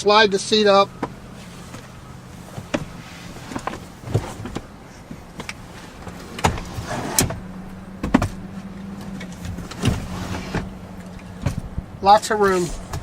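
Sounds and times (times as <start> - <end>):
steady low hum: 0.0 - 13.0
car seat clicks and clunks: 0.4 - 13.0.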